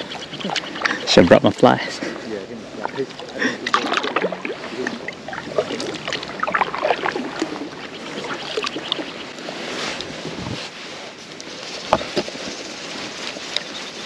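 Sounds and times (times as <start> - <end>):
water lapping against kayak: 0.0 - 14.0.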